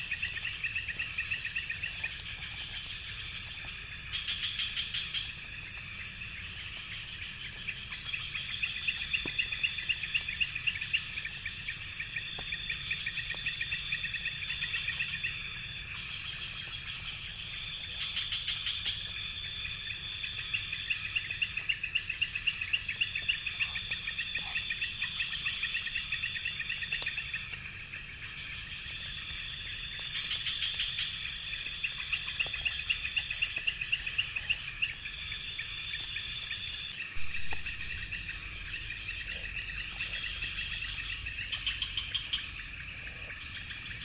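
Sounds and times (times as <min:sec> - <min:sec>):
crickets chirping: 0:00.0 - 0:44.0
high-pitched insect trill: 0:00.0 - 0:44.0.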